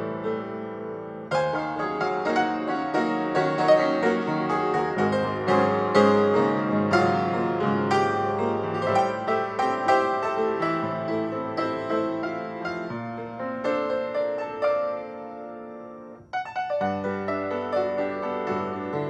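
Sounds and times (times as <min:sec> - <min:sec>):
piano-led instrumental music: 0:00.0 - 0:19.0.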